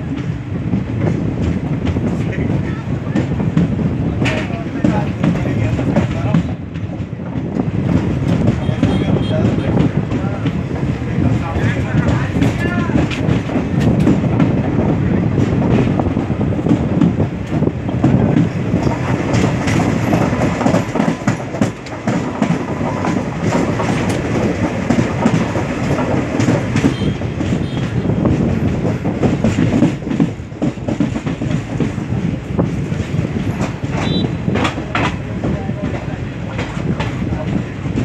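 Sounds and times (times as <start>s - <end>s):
train rumbling: 0.0s - 38.0s
wheels clattering over rail joints: 0.0s - 38.0s.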